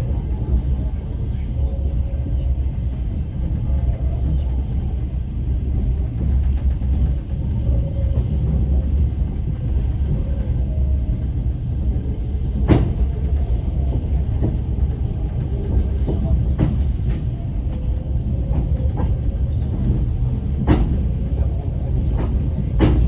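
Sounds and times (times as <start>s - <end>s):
train carriage rumble: 0.0s - 23.0s.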